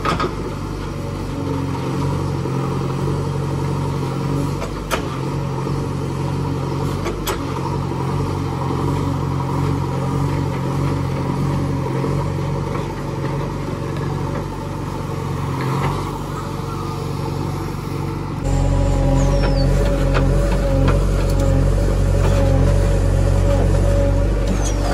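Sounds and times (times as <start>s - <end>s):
backhoe digging soil: 0.0s - 24.9s
diesel engine running: 0.0s - 24.9s.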